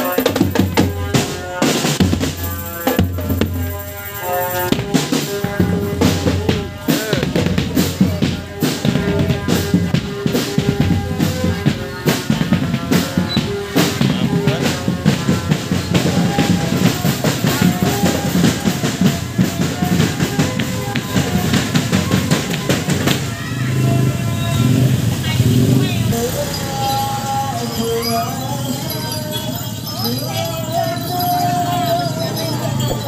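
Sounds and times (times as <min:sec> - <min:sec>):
bass and snare drums: 0:00.0 - 0:26.5.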